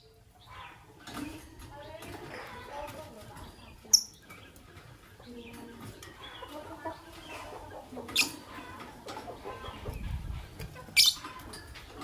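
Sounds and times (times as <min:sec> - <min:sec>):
lovebirds twittering: 0:00.0 - 0:12.0.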